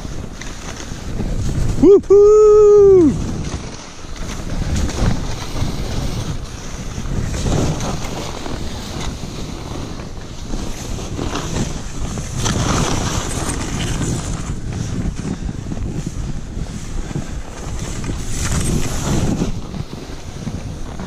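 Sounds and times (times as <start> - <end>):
skis hissing through snow: 0.0 - 21.0
wind on microphone: 0.0 - 21.0.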